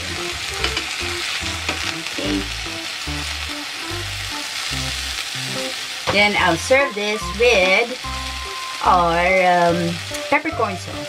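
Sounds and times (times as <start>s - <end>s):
background music with bass line: 0.0s - 11.0s
steak sizzling in a frying pan: 0.0s - 11.0s.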